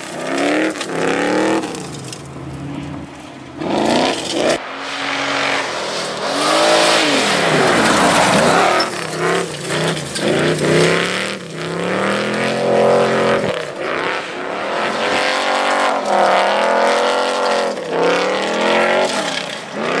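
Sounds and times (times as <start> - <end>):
tyres spinning on gravel: 0.0 - 4.6, 5.7 - 14.0, 14.8 - 20.0
car engine revving: 0.0 - 20.0.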